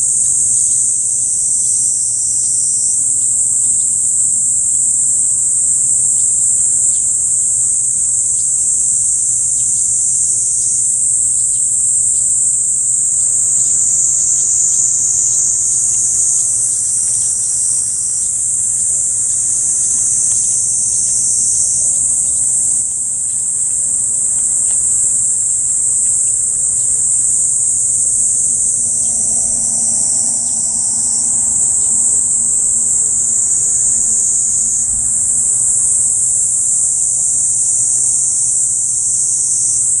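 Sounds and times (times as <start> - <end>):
cicadas shrilling: 0.0 - 40.0.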